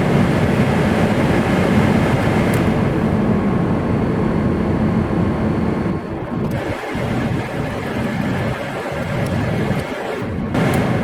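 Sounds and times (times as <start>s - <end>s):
blower fan rushing air: 0.0s - 11.0s
fan buzz: 0.0s - 11.0s.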